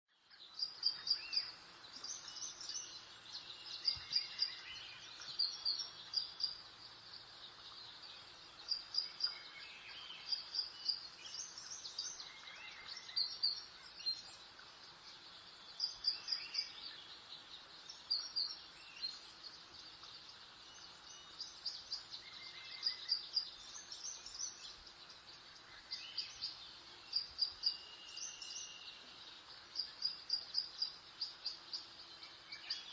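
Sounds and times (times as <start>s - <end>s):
faint steady hiss: 0.1s - 32.9s
small birds chirping: 0.1s - 32.9s
lower whistled bird notes: 0.3s - 32.9s.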